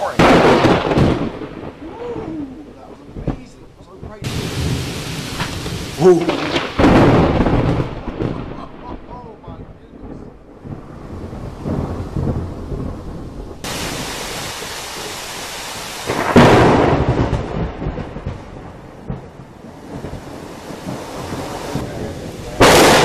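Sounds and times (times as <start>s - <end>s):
heavy rain pouring: 0.0s - 23.0s
loud thunderclap: 0.0s - 23.0s.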